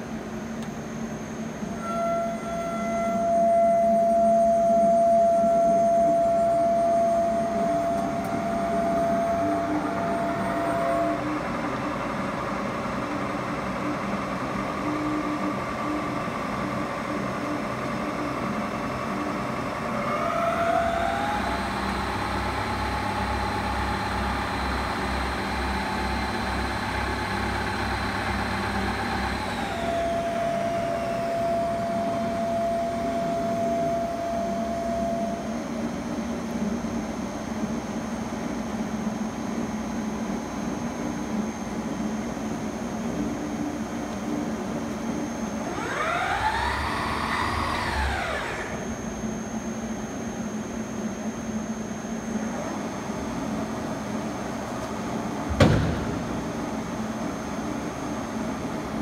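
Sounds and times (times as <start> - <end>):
lathe spindle whine: 0.0 - 55.5.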